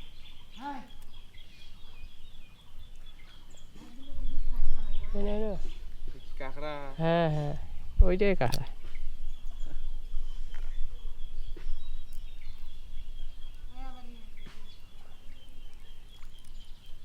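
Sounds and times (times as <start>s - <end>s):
wind rumble on microphone: 2.1s - 17.0s.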